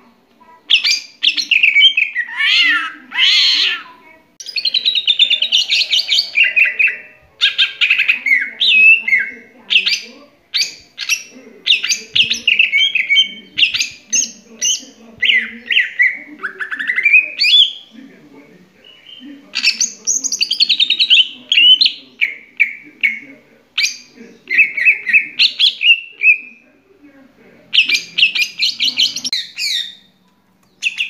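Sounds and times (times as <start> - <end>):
bird singing varied song: 0.5 - 18.2, 18.8 - 26.8, 27.7 - 31.0.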